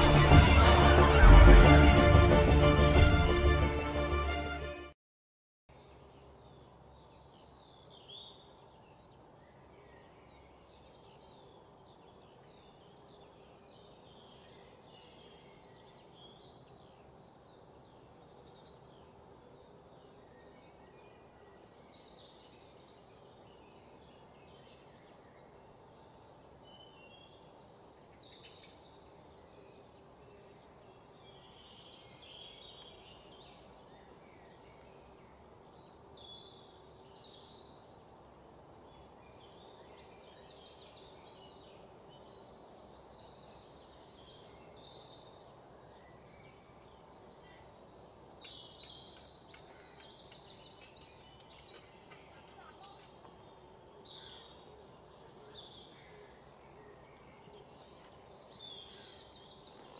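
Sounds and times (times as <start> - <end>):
low background noise: 5.7 - 59.9
small birds chirping: 5.8 - 59.9.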